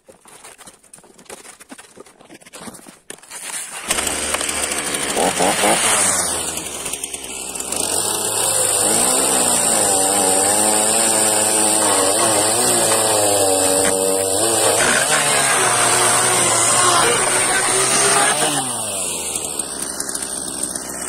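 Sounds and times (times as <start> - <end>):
chainsaw cutting wood: 3.2 - 21.0.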